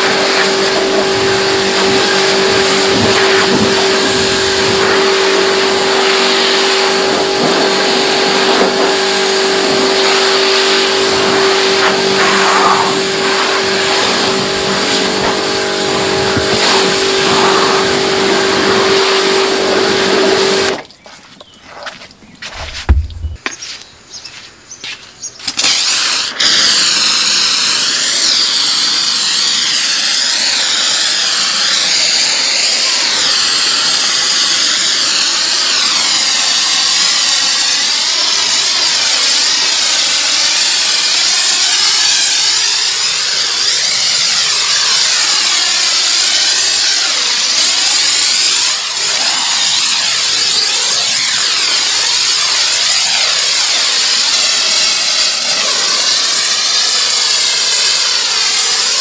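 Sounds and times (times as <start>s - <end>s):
pressure washer spraying: 0.0s - 20.8s, 25.5s - 59.0s.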